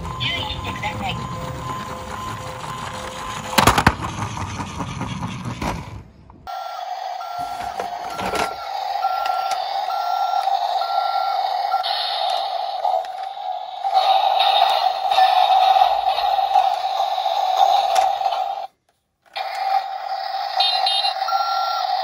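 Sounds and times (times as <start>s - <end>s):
toy truck electronic drone and beeps: 0.0s - 5.9s, 6.5s - 18.7s, 19.3s - 22.0s.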